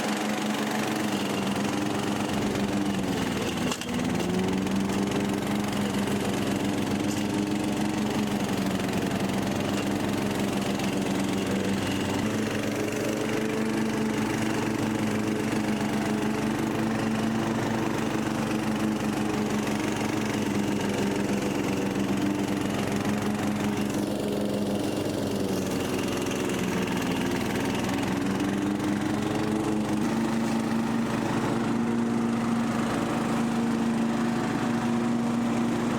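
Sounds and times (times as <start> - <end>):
lawn mower engine running: 0.0 - 35.9.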